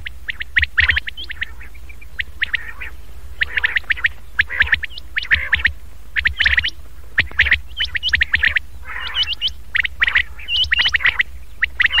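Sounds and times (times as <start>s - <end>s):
quail calling: 0.0s - 12.0s
steady low hum: 0.0s - 12.0s.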